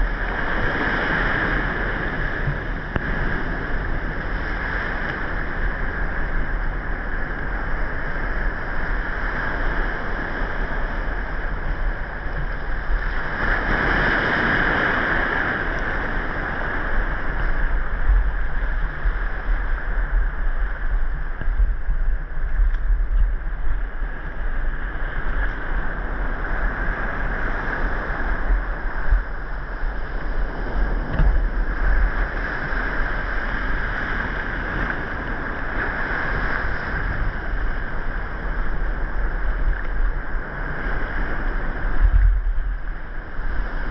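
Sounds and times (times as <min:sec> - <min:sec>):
muffled sea water rumble: 0:00.0 - 0:43.9.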